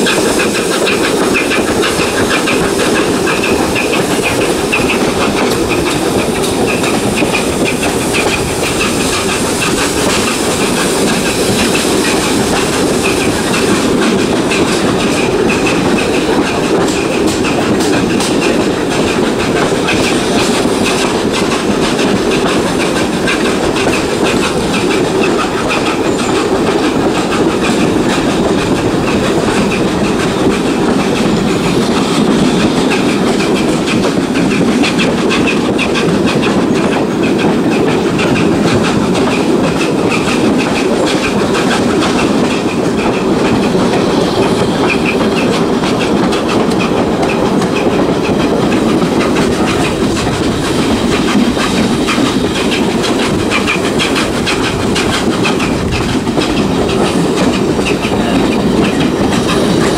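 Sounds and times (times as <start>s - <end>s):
rolling train coaches: 0.0s - 59.9s
steam locomotive exhaust: 0.0s - 59.9s
wheels clickety-clack on rail joints: 0.0s - 59.9s.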